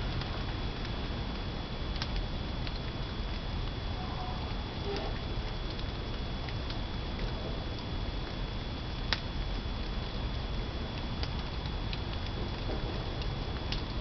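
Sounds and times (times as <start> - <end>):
fire crackling: 0.0 - 14.0
fire rushing: 0.0 - 14.0.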